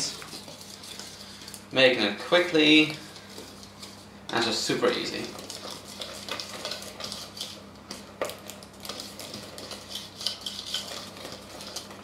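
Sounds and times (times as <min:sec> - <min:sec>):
wire whisk scraping bowl: 0:00.0 - 0:01.6, 0:02.3 - 0:12.0
whisk knocking bowl: 0:02.4 - 0:12.0.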